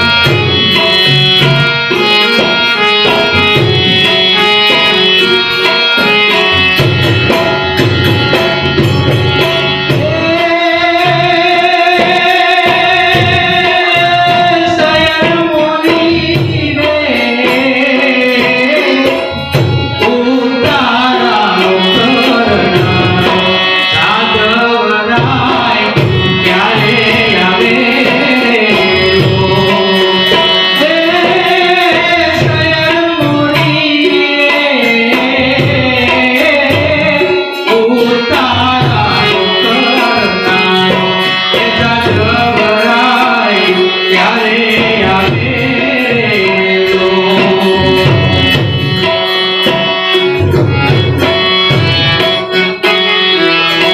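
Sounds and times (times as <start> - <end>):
harmonium: 0.0 - 53.9
man singing into a microphone: 0.0 - 53.9
tabla rhythm: 0.0 - 53.9.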